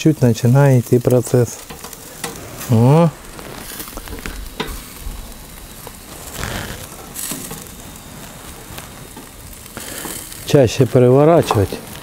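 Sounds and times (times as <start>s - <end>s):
embers crackling and popping: 0.0s - 12.0s
meat sizzling over charcoal: 0.0s - 12.0s.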